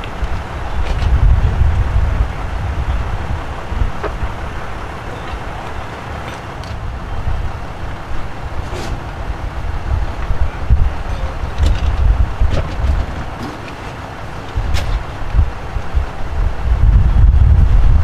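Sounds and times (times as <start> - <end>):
steady outdoor hiss: 0.0 - 18.0
wind buffeting microphone: 0.0 - 18.0.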